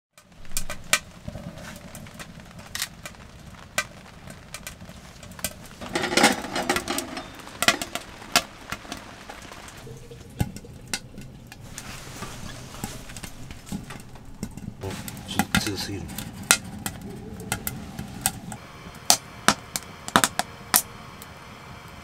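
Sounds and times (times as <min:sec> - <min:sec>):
firewood crackling and popping: 0:00.1 - 0:22.0.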